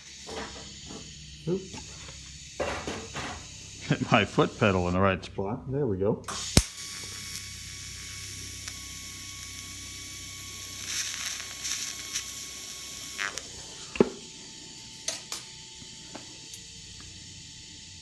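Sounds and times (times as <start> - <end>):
welding arc hissing: 0.0 - 5.4, 6.3 - 18.0
faint high whine: 0.0 - 18.0.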